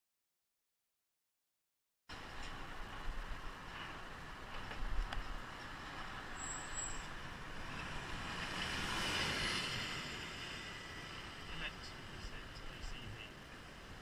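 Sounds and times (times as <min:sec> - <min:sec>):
bus passing: 0:02.1 - 0:14.0
road noise: 0:02.1 - 0:14.0.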